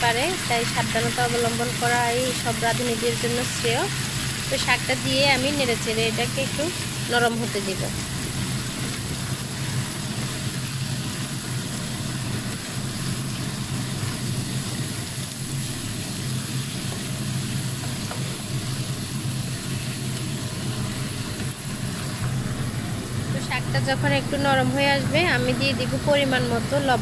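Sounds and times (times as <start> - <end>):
vegetables sizzling in oil: 0.0 - 27.0.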